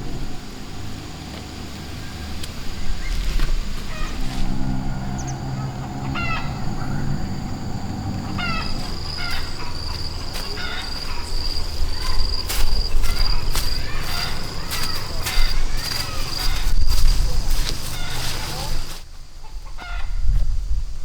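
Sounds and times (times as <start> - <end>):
insect chirps: 0.0 - 19.7
insects trilling: 0.0 - 20.1.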